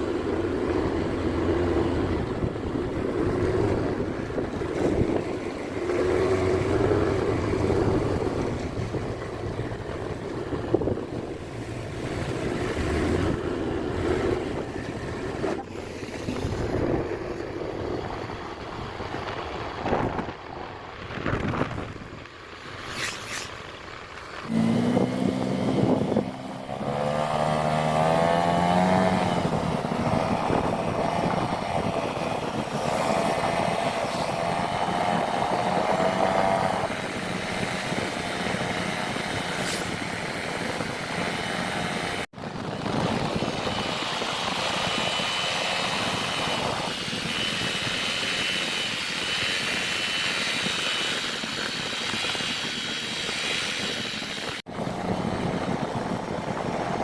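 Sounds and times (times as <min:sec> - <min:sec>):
scooter engine running: 0:00.0 - 0:22.2, 0:24.4 - 0:57.0
road noise: 0:00.0 - 0:57.0
wind noise: 0:00.0 - 0:57.0.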